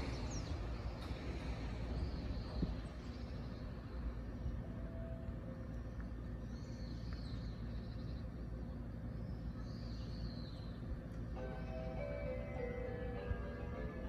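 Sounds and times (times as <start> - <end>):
electric train rumbling to a stop: 0.0 - 14.0.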